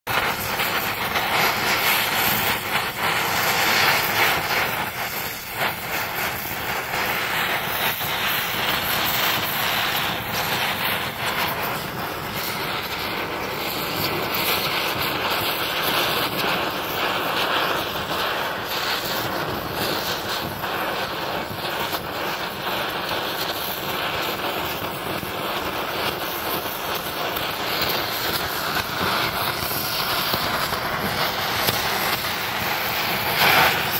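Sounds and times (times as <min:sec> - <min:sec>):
welding torch flame hissing: 0:00.1 - 0:33.9.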